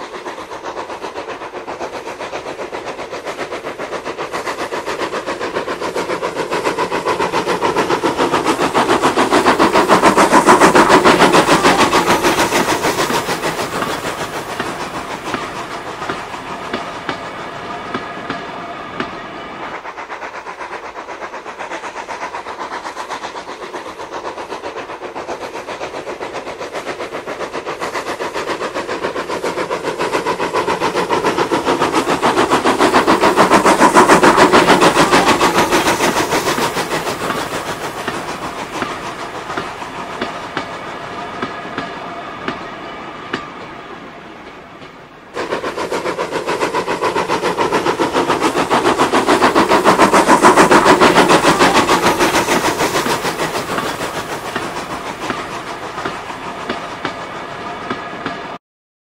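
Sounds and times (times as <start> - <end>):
model train wheels clattering: 0.0 - 42.6, 44.4 - 58.5.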